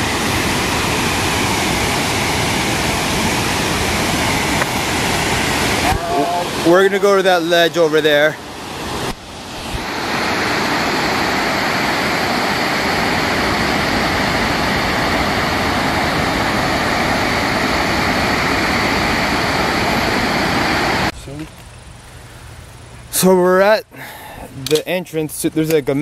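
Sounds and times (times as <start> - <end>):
waterfall roaring: 0.0 - 21.1.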